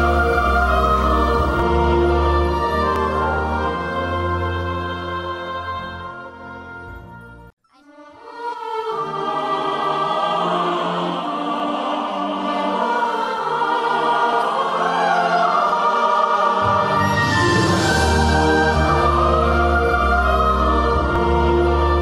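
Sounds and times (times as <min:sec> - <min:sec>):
choir-like singing over held chords: 0:00.0 - 0:06.8, 0:08.2 - 0:22.0.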